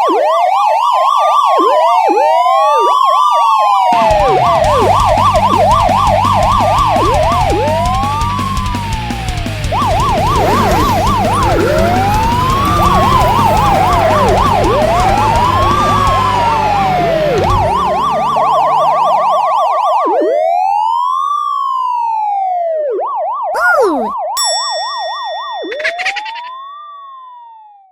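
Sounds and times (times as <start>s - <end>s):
police siren wailing and yelping: 0.0s - 24.4s, 25.6s - 27.8s.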